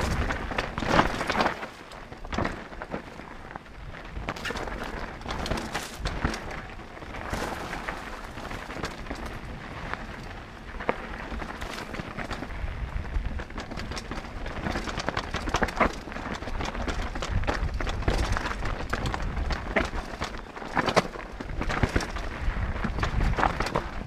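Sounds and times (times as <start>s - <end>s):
bike rattling over bumps: 0.0s - 24.0s
tyres rolling over loose stones: 0.0s - 24.0s
wind rumbling on microphone: 0.0s - 24.0s.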